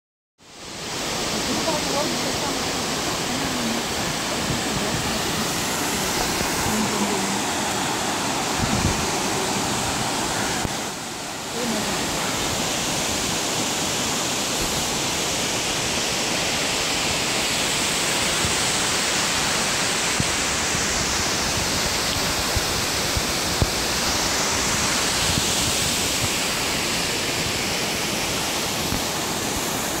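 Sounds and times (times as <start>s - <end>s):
waterfall rushing: 0.4s - 30.0s.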